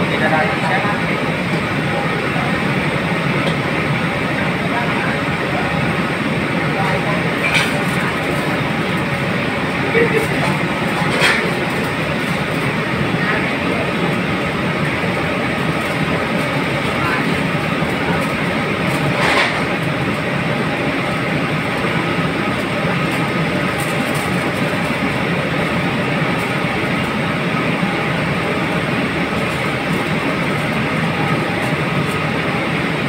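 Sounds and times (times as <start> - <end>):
kitchen equipment running: 0.0 - 33.0.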